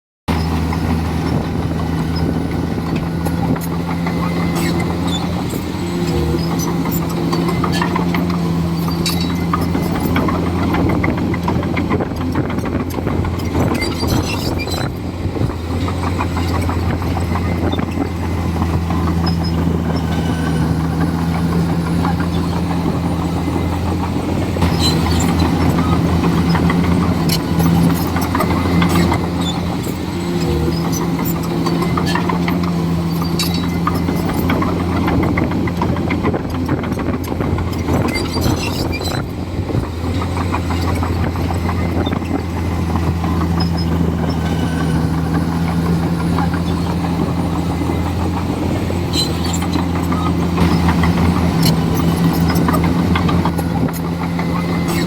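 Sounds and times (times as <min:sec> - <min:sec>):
bulldozer diesel engine running: 0:00.3 - 0:55.0.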